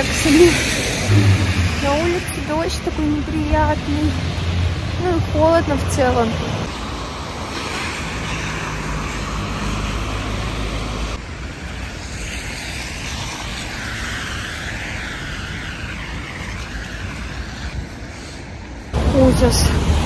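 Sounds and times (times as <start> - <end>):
rain: 0.0 - 20.0
traffic on wet road: 0.0 - 20.0.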